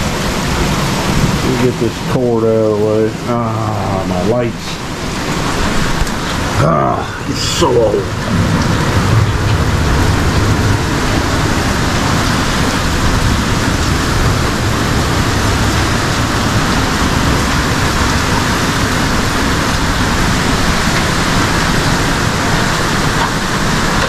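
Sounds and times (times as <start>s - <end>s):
torrential rain pouring: 0.0s - 24.0s.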